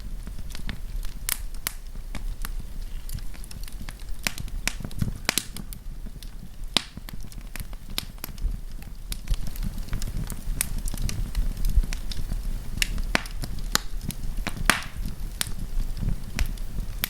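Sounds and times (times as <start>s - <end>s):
campfire crackling and popping: 0.0s - 17.0s
low rumble of flame: 0.0s - 17.0s.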